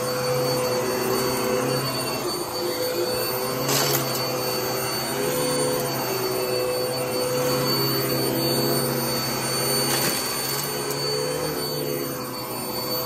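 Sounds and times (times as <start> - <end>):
upright vacuum cleaner running: 0.0 - 13.0.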